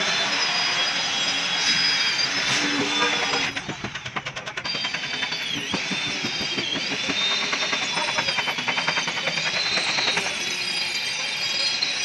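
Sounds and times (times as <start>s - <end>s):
air motor whine: 0.0s - 12.0s.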